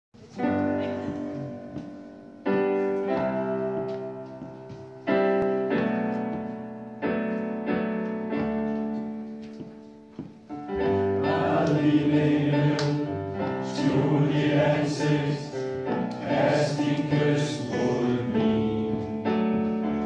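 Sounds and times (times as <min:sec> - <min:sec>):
slow solo piano music: 0:00.2 - 0:20.0.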